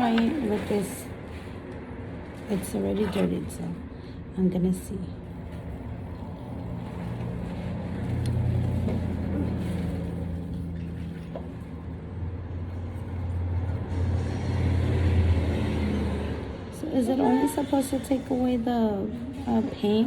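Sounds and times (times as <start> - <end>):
vehicle engine rumble: 0.0 - 16.8.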